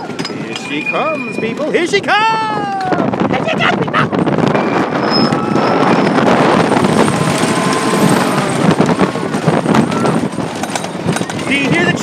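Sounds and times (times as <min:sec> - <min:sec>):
roller coaster wheels roaring: 0:00.0 - 0:12.0.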